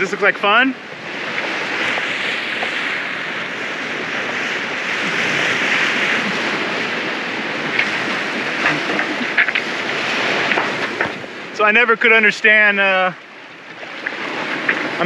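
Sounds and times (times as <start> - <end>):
waves: 0.0 - 15.0
wind: 0.0 - 15.0.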